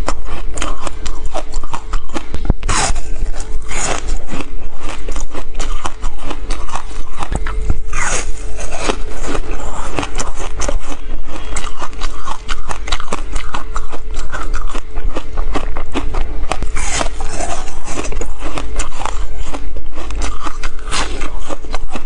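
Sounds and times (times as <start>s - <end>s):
frozen ice crunched between teeth: 0.0s - 22.0s.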